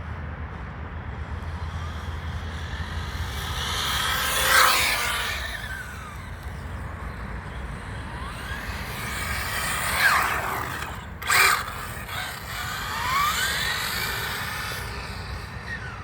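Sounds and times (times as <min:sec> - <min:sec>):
rc car electric motor whining: 0:01.2 - 0:16.0.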